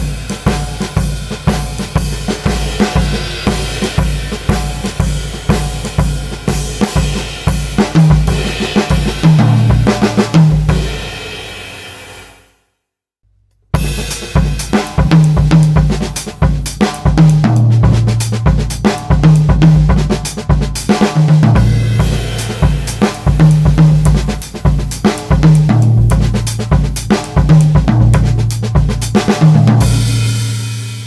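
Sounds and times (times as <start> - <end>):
bass drum: 0.0 - 11.3, 13.8 - 31.0
drum kit groove: 0.0 - 12.3, 13.7 - 31.0
snare drum: 0.0 - 12.3, 13.8 - 31.0
cymbals and hi-hat: 0.0 - 12.6, 13.8 - 31.0.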